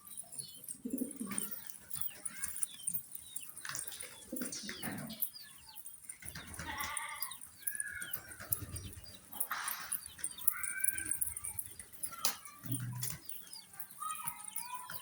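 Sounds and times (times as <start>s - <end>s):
low murmuring: 0.1s - 15.0s
pigeon squabs begging calls: 0.6s - 15.0s.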